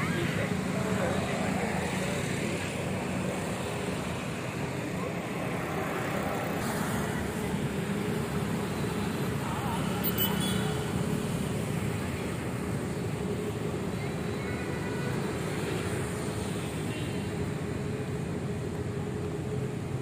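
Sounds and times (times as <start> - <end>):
car driving on road: 0.0 - 20.0.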